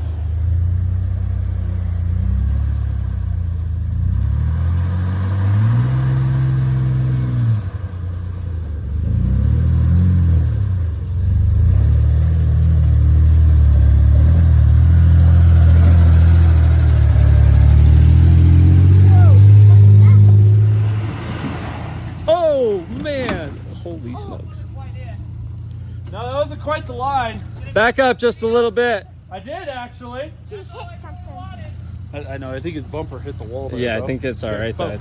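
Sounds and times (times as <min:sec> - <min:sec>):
suv engine revving: 0:00.0 - 0:30.5.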